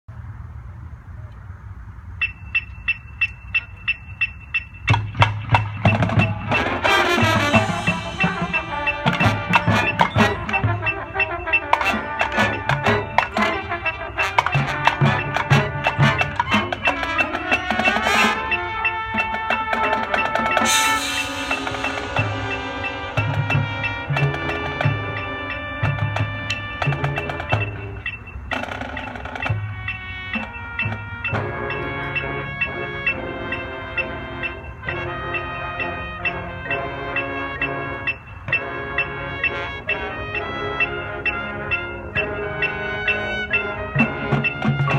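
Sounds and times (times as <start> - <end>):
metronome clicking: 2.2 - 44.9
marching band playing: 2.6 - 44.9.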